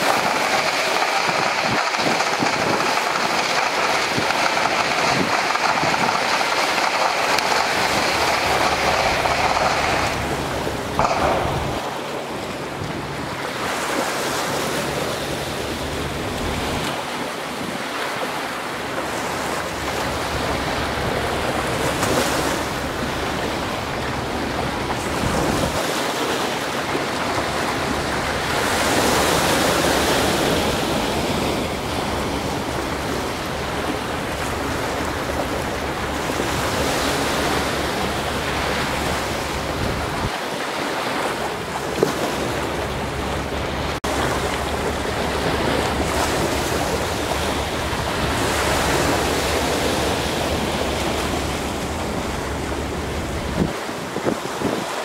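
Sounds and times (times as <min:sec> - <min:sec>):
sea waves washing on shore: 0:00.0 - 0:55.0
wind buffeting microphone: 0:00.0 - 0:55.0.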